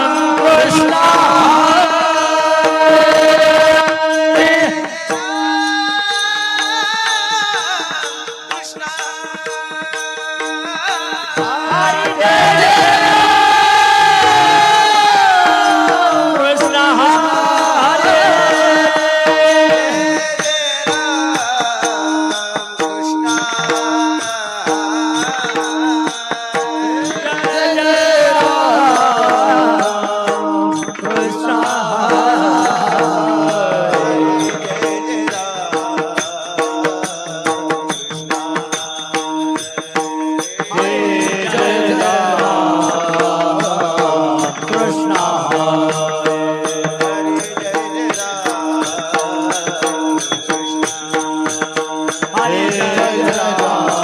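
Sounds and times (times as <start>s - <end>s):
hand percussion beat: 0.0s - 54.0s.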